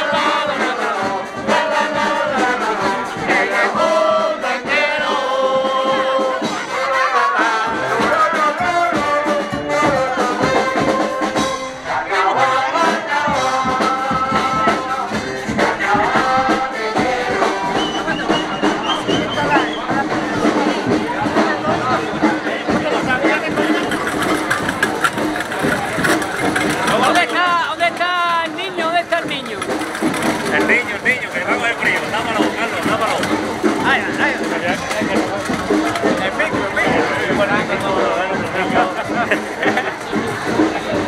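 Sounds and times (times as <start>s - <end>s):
people singing: 0.0s - 28.0s, 29.6s - 41.0s
brass parade music: 0.0s - 41.0s.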